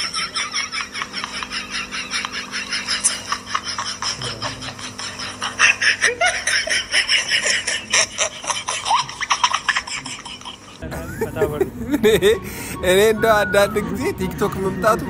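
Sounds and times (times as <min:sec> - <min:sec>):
person laughing: 0:00.0 - 0:12.8.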